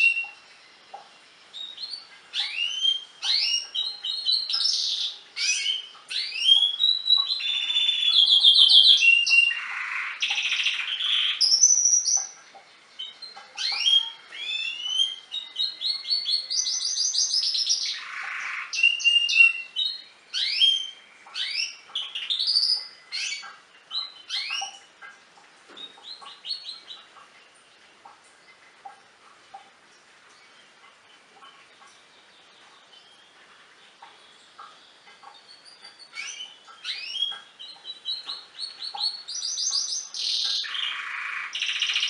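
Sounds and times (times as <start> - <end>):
canary singing trills: 0.0 - 29.7, 30.3 - 42.0.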